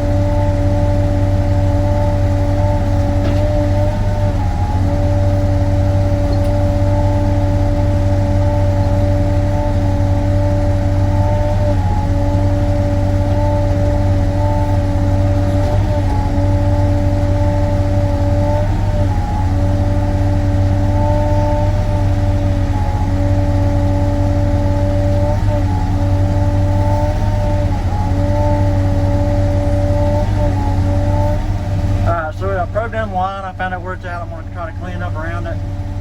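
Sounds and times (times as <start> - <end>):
excavator diesel engine droning: 0.0 - 36.0.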